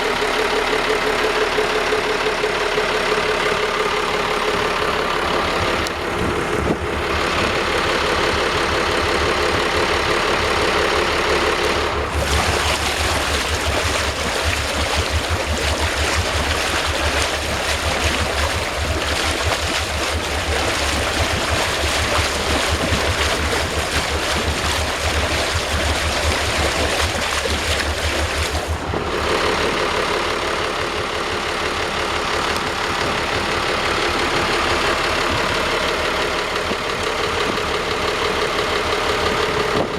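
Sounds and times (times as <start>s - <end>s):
small boat engine running: 0.0s - 39.9s.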